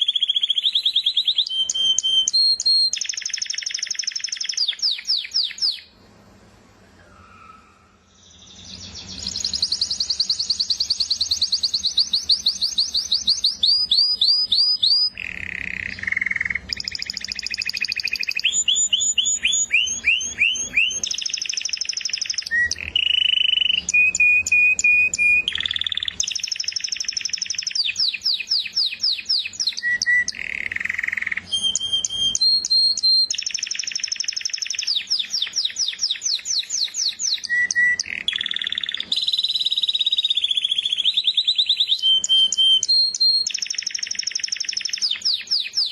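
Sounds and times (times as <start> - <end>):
canary singing trills: 0.0 - 6.0, 7.0 - 45.9.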